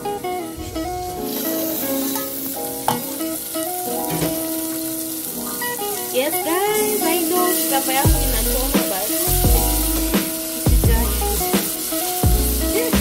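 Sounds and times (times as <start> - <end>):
background music with melody: 0.0 - 13.0
tomatoes sizzling in a pot: 0.0 - 13.0.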